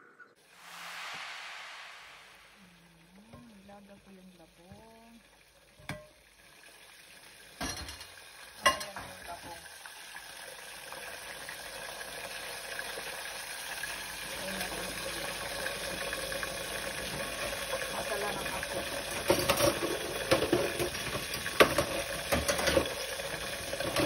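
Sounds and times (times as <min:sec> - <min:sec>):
pot boiling and bubbling: 0:00.4 - 0:24.0.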